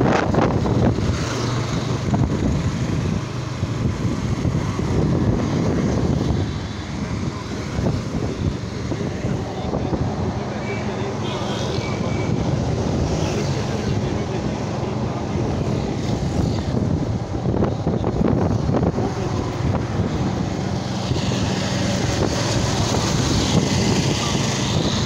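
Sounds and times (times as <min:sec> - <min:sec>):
wind on microphone: 0:00.0 - 0:25.0.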